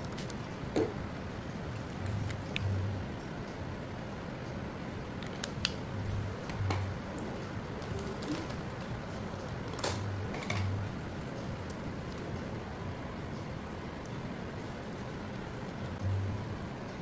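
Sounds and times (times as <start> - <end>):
low hiss and hum: 0.0 - 17.0.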